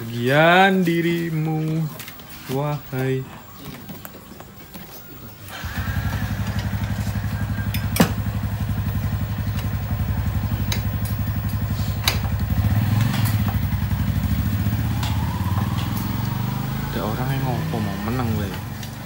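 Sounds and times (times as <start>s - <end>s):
motorcycle engine starting and idling: 2.8s - 19.0s.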